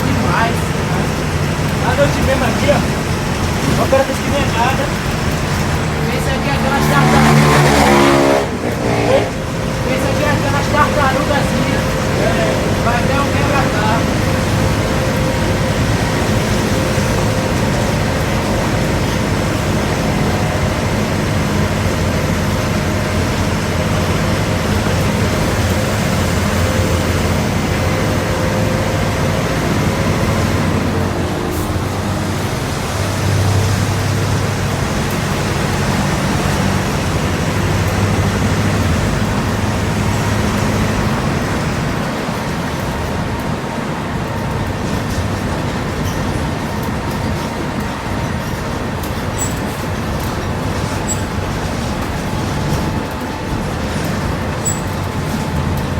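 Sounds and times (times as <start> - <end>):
bus diesel engine running: 0.0 - 55.9
road noise: 0.0 - 55.9.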